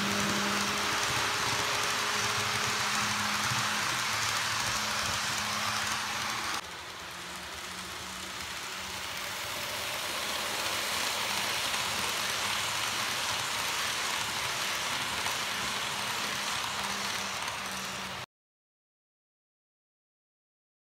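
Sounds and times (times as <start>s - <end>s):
model train wheels on rails: 0.0s - 18.3s.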